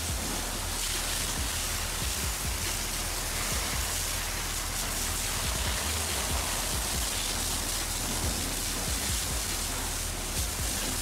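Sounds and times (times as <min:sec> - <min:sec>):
water jet spraying on metal: 0:00.0 - 0:11.0.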